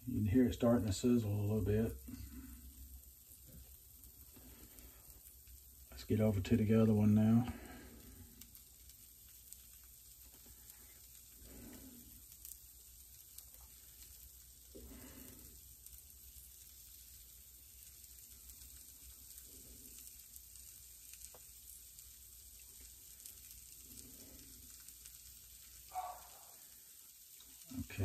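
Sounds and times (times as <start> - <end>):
faint cheese sizzling: 0.0 - 28.0.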